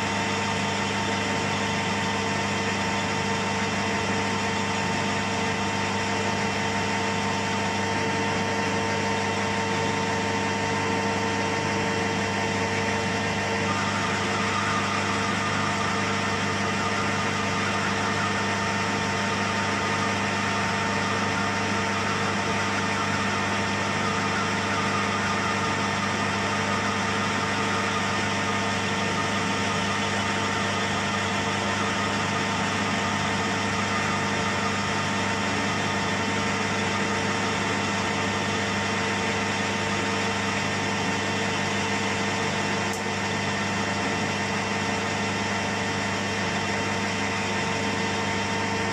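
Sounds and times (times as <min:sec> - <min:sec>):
metal lathe cutting: 0:00.0 - 0:48.9.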